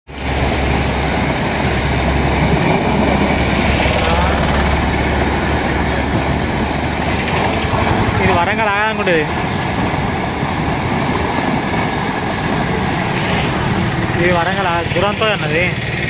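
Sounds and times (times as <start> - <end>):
train wheels rumbling on rails: 0.1 - 16.0.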